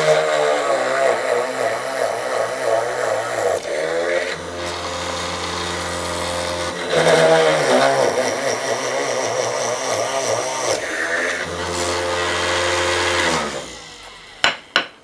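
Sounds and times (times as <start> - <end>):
drill press motor whining: 0.0 - 14.8.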